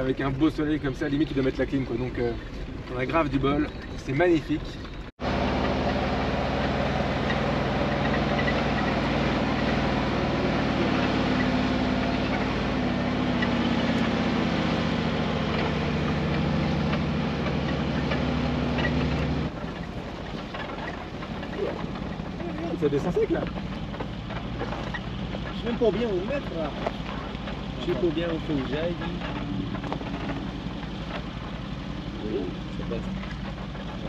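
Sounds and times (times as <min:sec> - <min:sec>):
engine running at low speed: 0:00.0 - 0:34.0.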